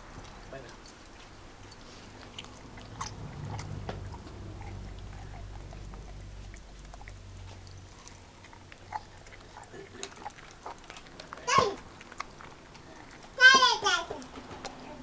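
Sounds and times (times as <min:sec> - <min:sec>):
dog chewing a lemon: 0:00.0 - 0:15.0
low steady rumble: 0:00.0 - 0:15.0.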